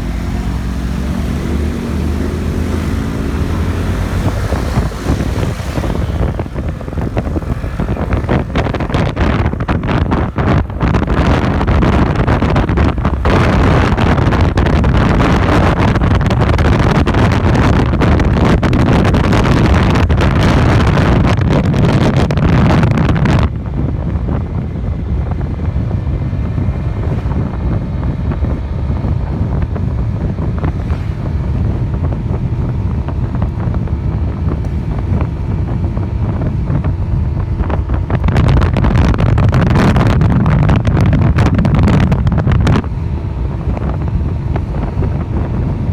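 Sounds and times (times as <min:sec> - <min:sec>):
faint motorcycle engine hum: 0:00.0 - 0:45.9
wind rushing over microphone: 0:00.0 - 0:45.9.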